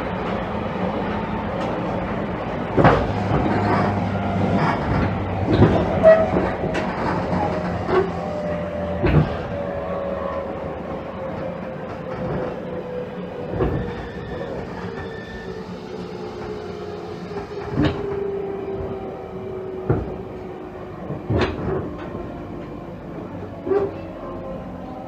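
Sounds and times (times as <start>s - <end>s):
train running noise: 0.0s - 25.0s
wheels clacking over rail joints: 0.0s - 25.0s.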